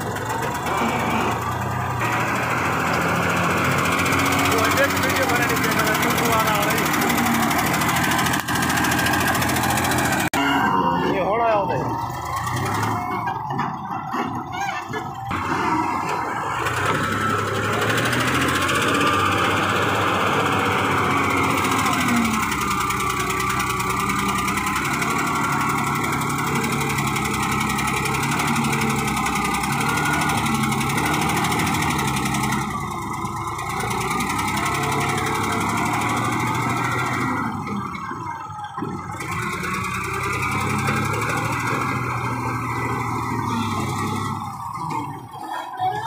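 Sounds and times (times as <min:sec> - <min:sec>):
engine whine: 0:00.0 - 0:46.0
loader diesel engine under load: 0:00.0 - 0:46.0.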